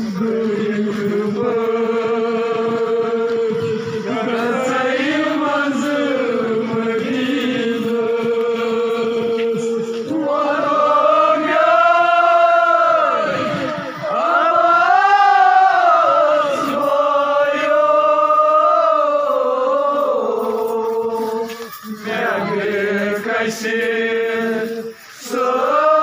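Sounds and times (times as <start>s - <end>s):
men chanting: 0.0s - 26.0s.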